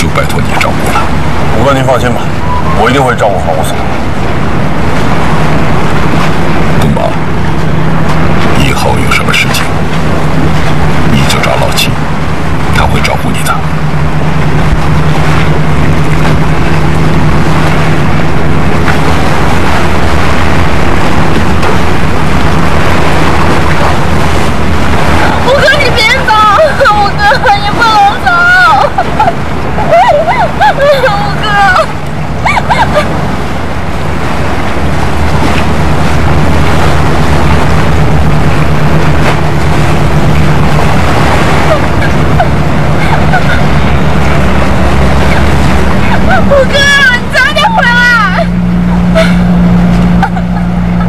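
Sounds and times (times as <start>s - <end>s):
low engine rumble: 0.0s - 51.0s
rushing water noise: 0.0s - 51.0s.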